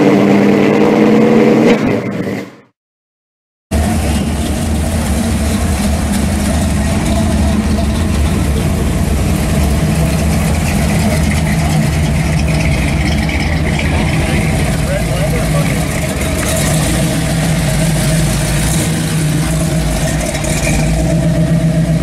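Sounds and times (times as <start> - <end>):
cars rolling past rumbling: 3.7 - 22.0.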